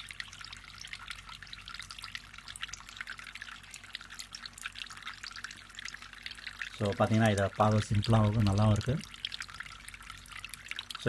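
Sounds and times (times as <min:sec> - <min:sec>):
faint low pump hum: 0:00.0 - 0:11.0
water trickling into basin: 0:00.0 - 0:11.0.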